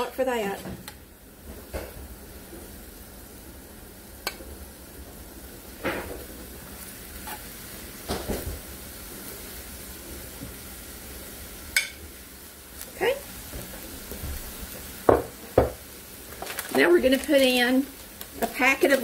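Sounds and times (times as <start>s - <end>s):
meat sizzling in a skillet: 0.0s - 19.0s.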